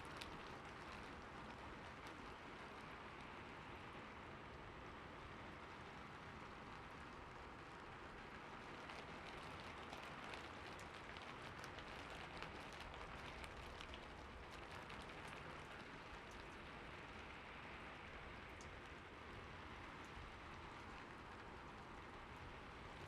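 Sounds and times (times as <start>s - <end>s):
light rain pattering: 0.0s - 23.0s.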